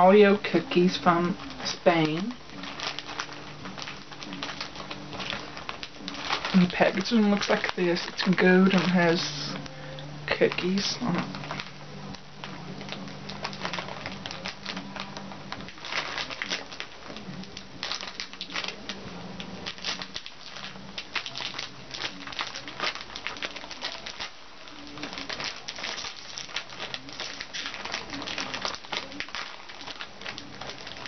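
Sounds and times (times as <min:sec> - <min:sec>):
wrapper crinkling and tearing: 0:00.0 - 0:31.0.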